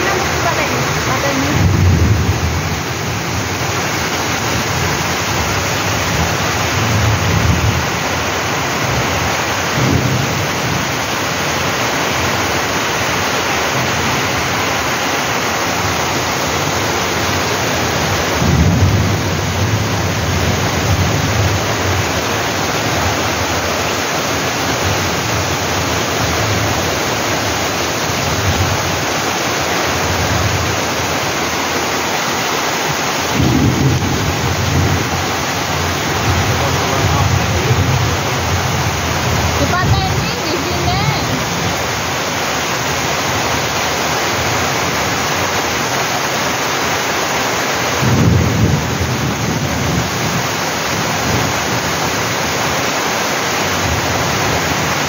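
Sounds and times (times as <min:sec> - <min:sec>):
thunder rumbling: 0:00.0 - 0:14.8, 0:15.7 - 0:31.9, 0:32.9 - 0:43.8, 0:47.9 - 0:52.5
heavy rain on gravel: 0:00.0 - 0:55.0
rain on corrugated roof: 0:00.0 - 0:55.0.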